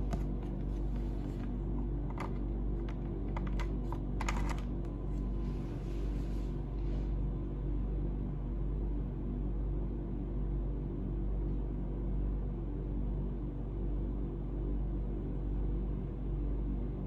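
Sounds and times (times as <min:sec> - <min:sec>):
steady low drone: 0:00.0 - 0:17.0.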